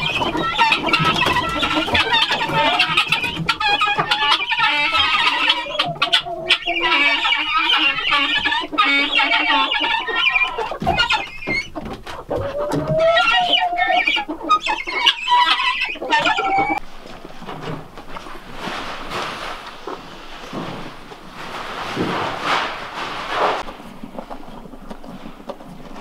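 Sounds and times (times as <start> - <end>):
chickens clucking and calling: 0.0 - 26.0.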